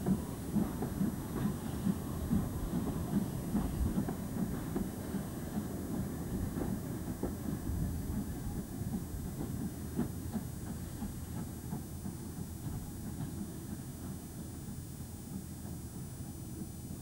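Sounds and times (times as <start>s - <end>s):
steam train rumbling past: 0.0s - 17.0s.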